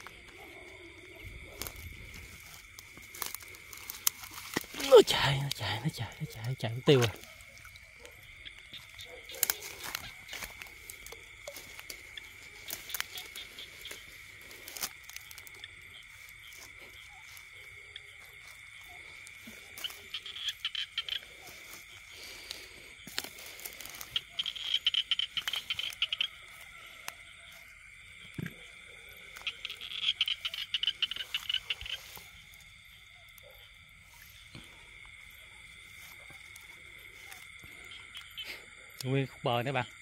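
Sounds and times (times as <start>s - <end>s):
frog croaking: 0.0s - 40.0s
insects droning: 0.0s - 40.0s.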